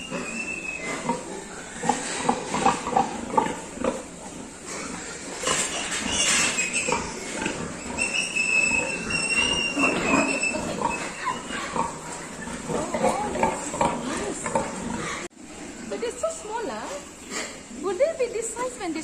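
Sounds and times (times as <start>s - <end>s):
piglets grunting and squealing: 0.0s - 18.4s.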